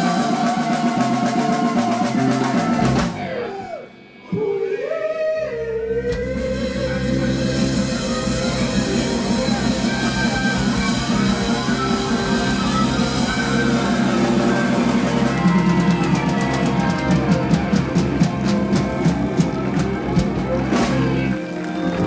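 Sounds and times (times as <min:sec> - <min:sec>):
live rock band playing: 0:00.0 - 0:04.8, 0:06.1 - 0:22.0.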